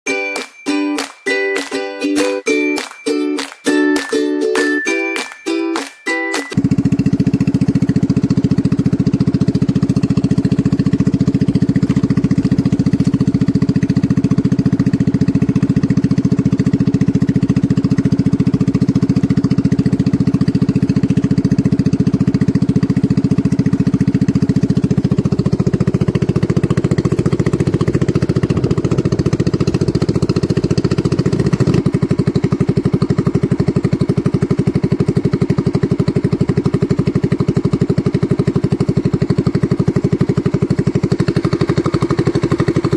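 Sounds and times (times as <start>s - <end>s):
boat engine running: 6.6s - 42.9s.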